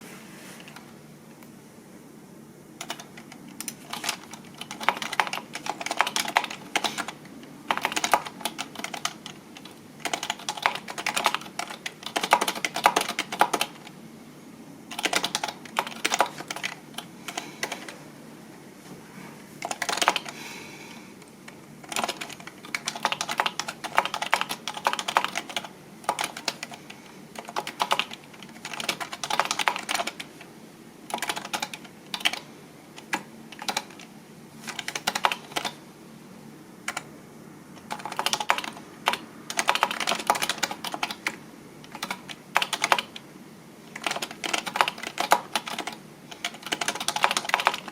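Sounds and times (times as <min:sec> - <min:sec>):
typing on a computer keyboard: 0:02.8 - 0:14.0, 0:14.9 - 0:18.0, 0:19.6 - 0:20.4, 0:21.5 - 0:30.5, 0:31.1 - 0:35.8, 0:36.9 - 0:37.1, 0:37.8 - 0:43.2, 0:43.9 - 0:47.9.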